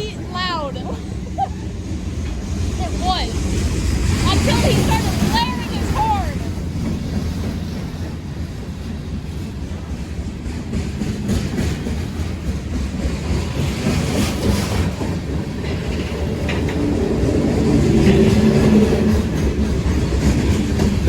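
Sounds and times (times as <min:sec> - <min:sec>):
freight train rumbling past: 0:00.0 - 0:21.0
train wheels clacking on rails: 0:00.0 - 0:21.0.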